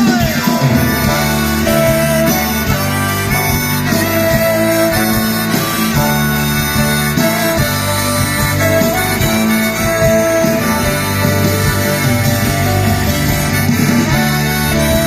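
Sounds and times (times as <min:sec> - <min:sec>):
harmonica melody: 0:00.0 - 0:15.0
rock band playing: 0:00.0 - 0:15.0.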